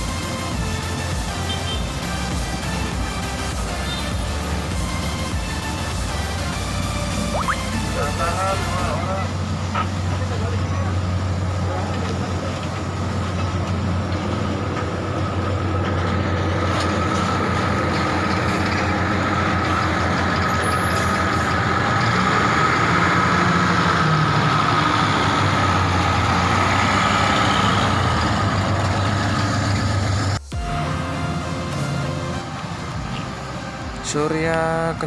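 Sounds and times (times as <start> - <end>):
diesel bus engine running: 0.0 - 35.0
engine whine: 2.0 - 35.0.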